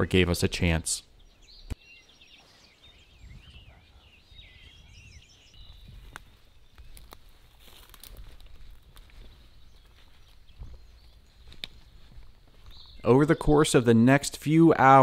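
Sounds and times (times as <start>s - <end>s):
outdoor background noise: 0.0s - 15.0s
songbirds chirping: 0.0s - 15.0s.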